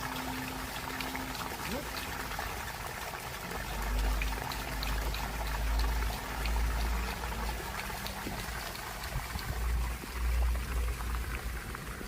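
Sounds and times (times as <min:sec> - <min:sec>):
water pouring from pipe: 0:00.0 - 0:12.0.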